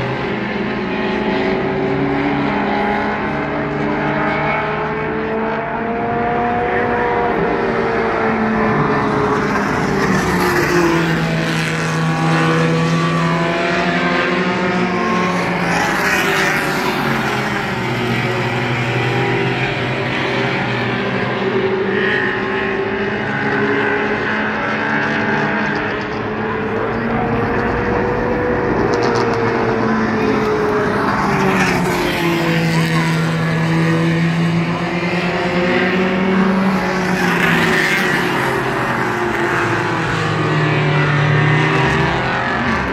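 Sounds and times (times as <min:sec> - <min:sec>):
cars passing close: 0:00.0 - 0:42.9
race car engines racing: 0:00.0 - 0:42.9.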